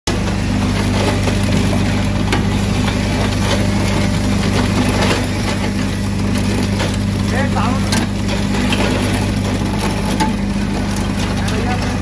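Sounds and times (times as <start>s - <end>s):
grinder machine humming: 0.1s - 12.0s.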